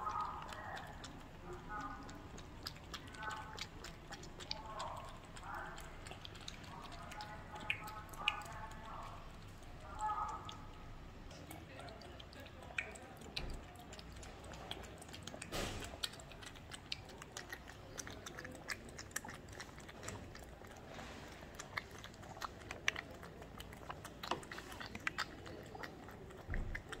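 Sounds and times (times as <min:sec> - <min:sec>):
cats chewing and lapping: 0:00.0 - 0:27.0.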